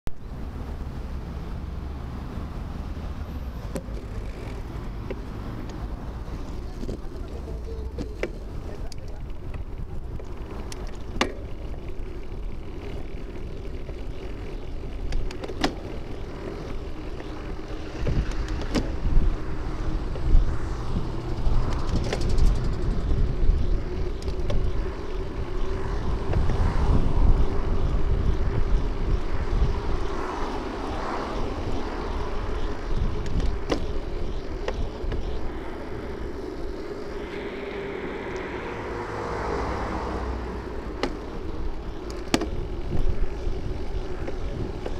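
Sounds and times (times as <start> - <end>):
bicycle ride hum: 0.1 - 44.9
passing traffic: 0.1 - 44.9
wind and road rumble: 0.1 - 44.9.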